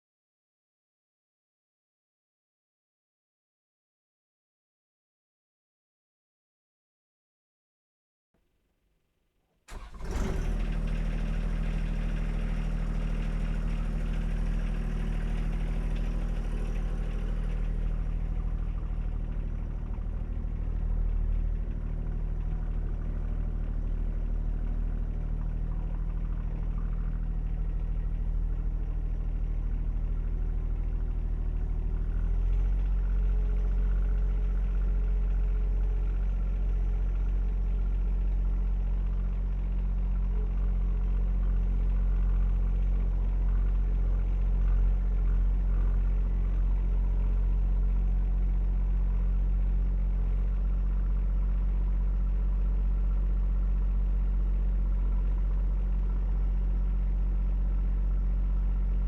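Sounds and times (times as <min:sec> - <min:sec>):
tractor diesel engine running: 0:09.7 - 0:58.9.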